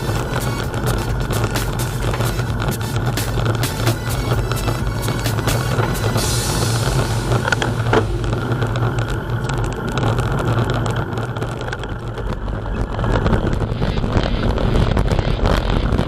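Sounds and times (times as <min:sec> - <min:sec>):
low road rumble: 0:00.0 - 0:16.0
wind buffeting microphone: 0:00.0 - 0:16.0.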